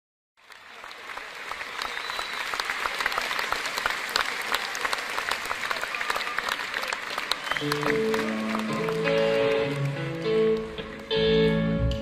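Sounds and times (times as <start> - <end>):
crowd applause: 0.4 - 11.8.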